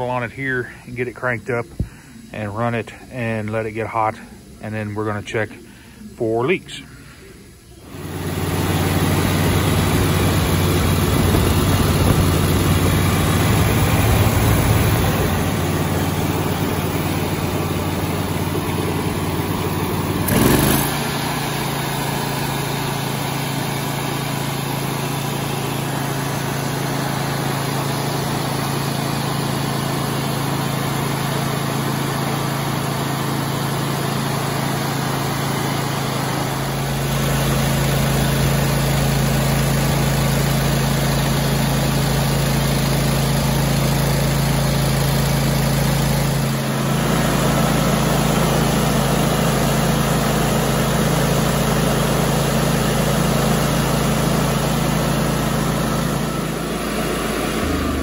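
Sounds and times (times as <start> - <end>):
mower engine running: 7.8 - 58.0.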